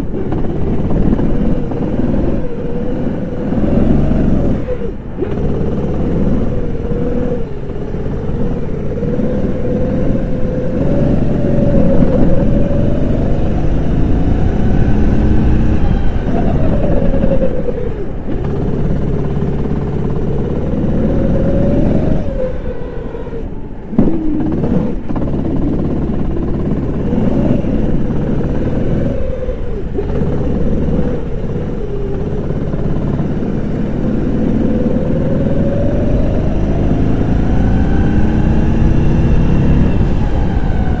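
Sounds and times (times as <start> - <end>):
kart engine racing: 0.0 - 41.0.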